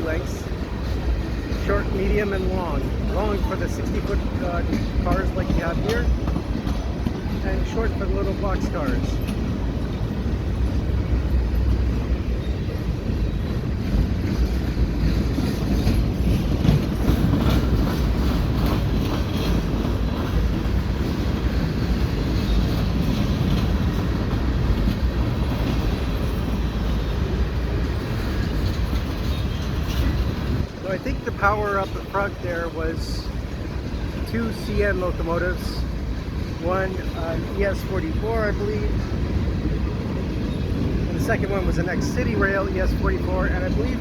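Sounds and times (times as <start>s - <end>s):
clicks and clanks of freight cars: 0.0s - 44.0s
steel wheels rumbling on rail: 0.0s - 44.0s.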